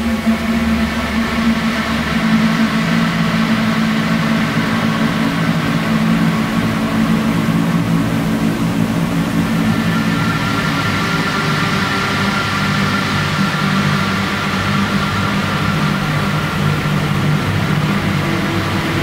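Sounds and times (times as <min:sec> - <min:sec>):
electronic drone: 0:00.0 - 0:19.0.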